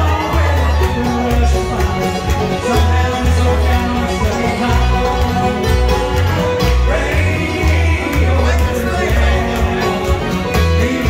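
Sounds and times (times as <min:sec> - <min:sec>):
guitar: 0:00.0 - 0:11.0
mandolin: 0:00.0 - 0:11.0
picked banjo: 0:00.0 - 0:11.0.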